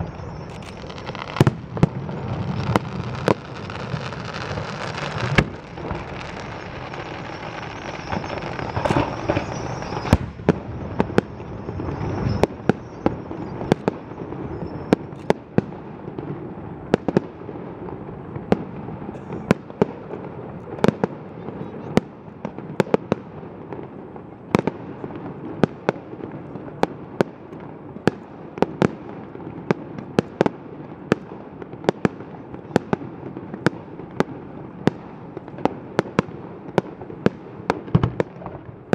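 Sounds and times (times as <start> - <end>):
fireworks crackling: 0.0 - 38.9
fireworks shells bursting with bangs: 0.0 - 38.9.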